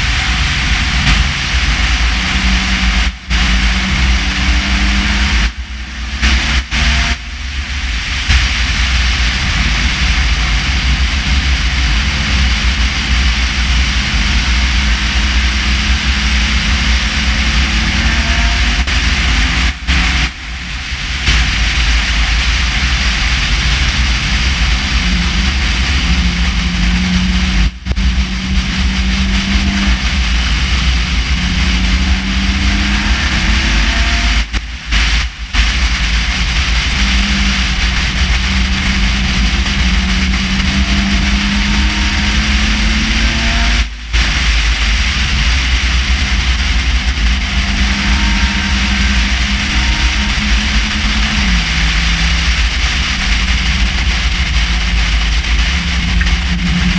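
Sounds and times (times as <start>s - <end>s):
race car engine at speed: 0.0s - 56.9s
wind and road noise: 0.0s - 56.9s.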